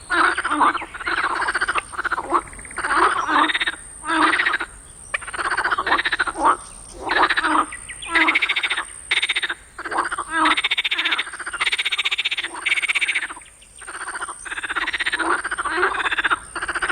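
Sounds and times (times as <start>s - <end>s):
frogs croaking: 0.0s - 16.9s.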